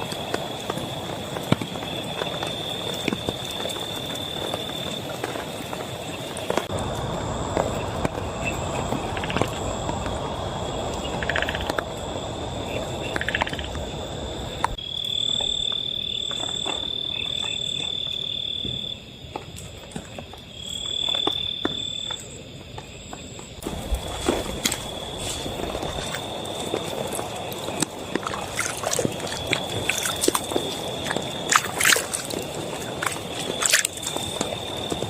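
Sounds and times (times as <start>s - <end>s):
higher pulsing insect call: 0.0s - 35.0s
insects droning: 0.0s - 35.0s.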